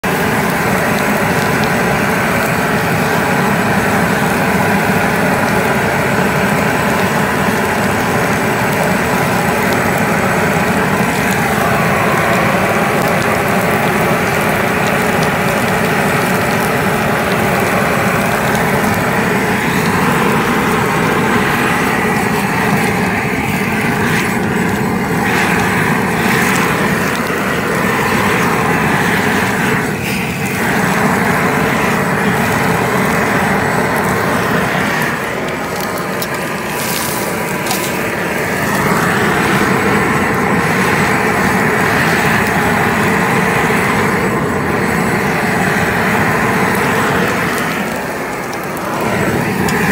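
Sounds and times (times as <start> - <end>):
propane torch flame rushing: 0.0 - 49.9.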